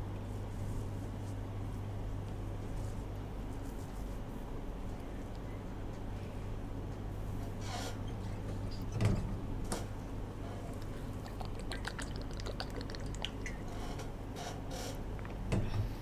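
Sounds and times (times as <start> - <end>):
faint low hum: 0.0 - 14.2.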